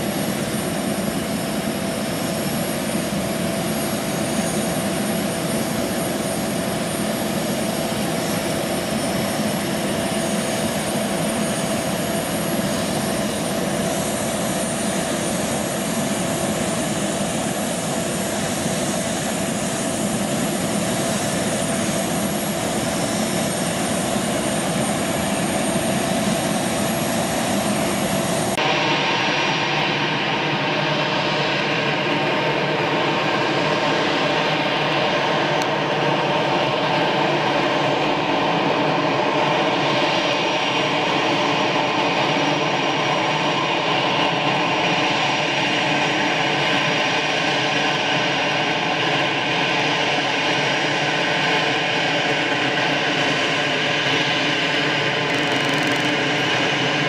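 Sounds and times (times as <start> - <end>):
jet engine whine: 0.0 - 57.0.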